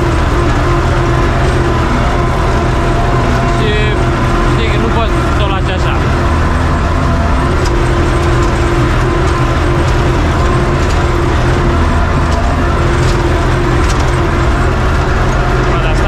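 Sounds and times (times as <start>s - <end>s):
drum mower cutting: 0.0s - 16.0s
tractor diesel engine under load: 0.0s - 16.0s.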